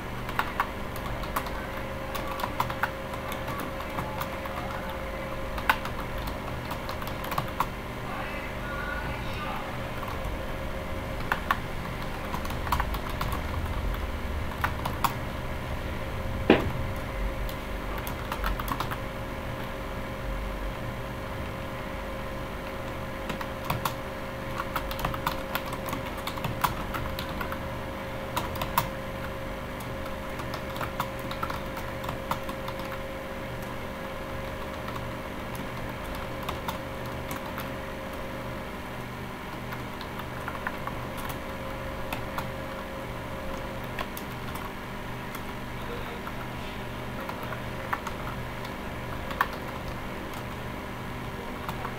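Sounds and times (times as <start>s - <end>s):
steady background hum: 0.0s - 51.9s.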